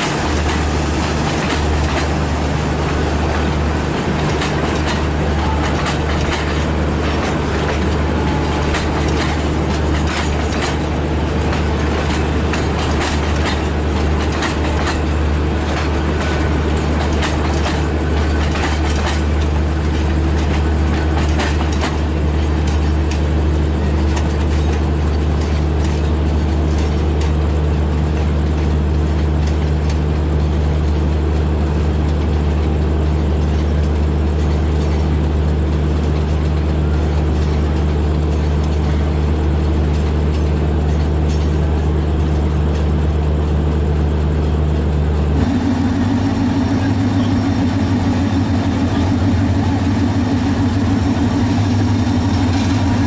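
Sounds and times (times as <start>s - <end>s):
diesel locomotive idling: 0.0s - 53.0s
train wheels clicking over rail joints: 0.0s - 53.0s.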